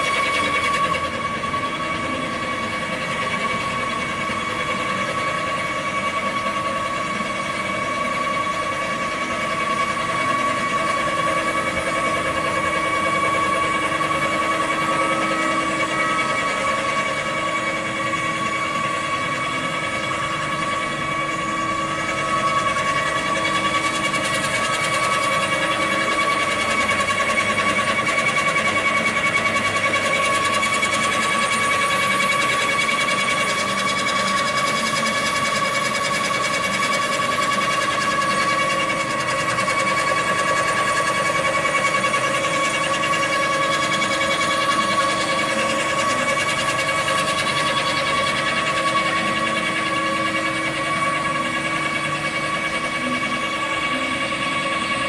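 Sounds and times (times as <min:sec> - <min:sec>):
industrial machinery humming and whining: 0:00.0 - 0:55.0.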